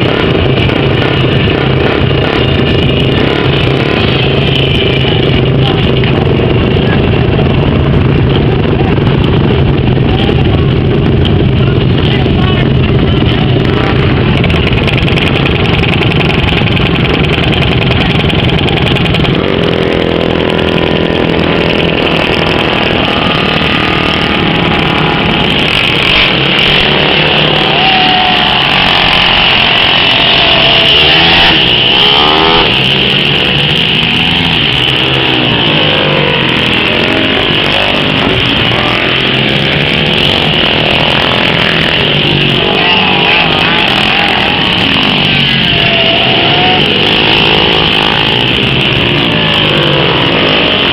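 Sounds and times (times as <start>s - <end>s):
racing car engines droning: 0.0s - 50.9s.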